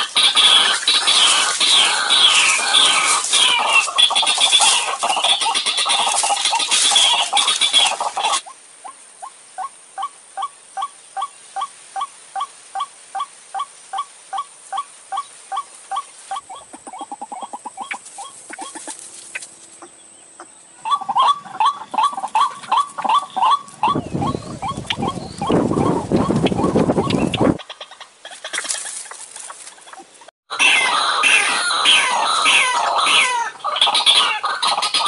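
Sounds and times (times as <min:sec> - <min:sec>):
waterhen calls: 0:00.0 - 0:35.0.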